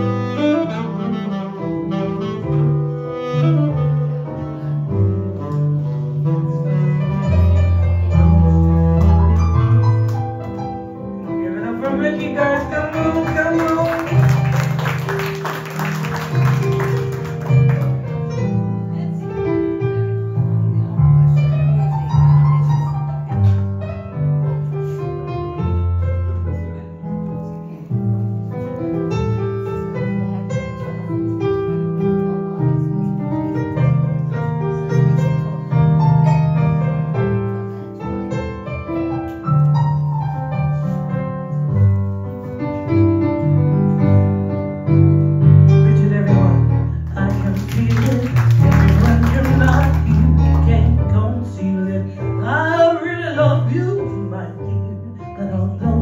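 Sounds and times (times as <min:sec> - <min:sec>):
piano solo: 0:00.0 - 0:56.0.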